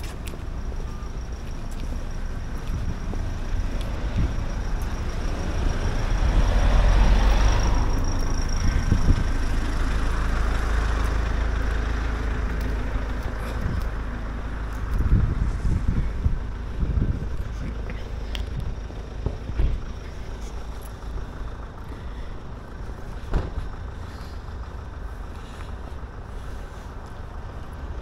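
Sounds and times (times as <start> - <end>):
low rumble of vehicle noise: 0.0 - 28.0.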